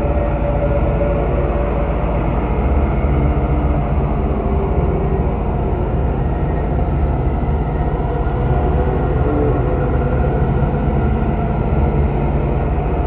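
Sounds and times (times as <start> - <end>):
deep steady rumble: 0.0 - 13.0.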